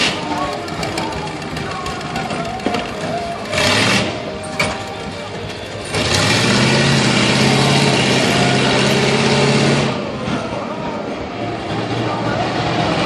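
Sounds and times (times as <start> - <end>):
background noise: 0.0 - 13.0
monster truck engine roaring: 0.0 - 13.0.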